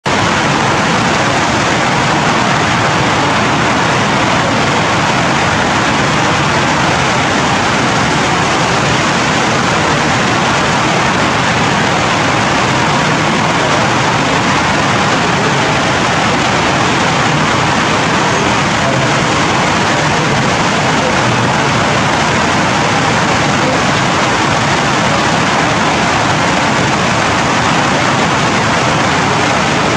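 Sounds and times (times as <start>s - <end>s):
heavy rain on foliage: 0.1s - 29.9s.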